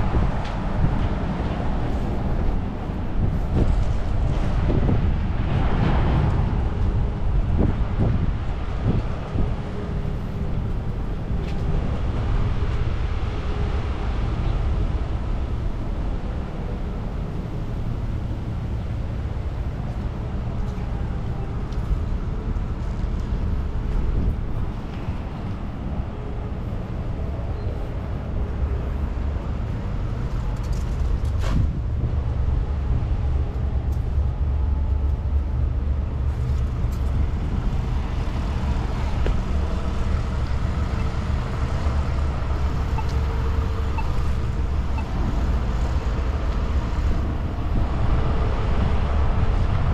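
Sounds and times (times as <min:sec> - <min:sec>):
cars and bus passing: 0:00.0 - 0:49.9.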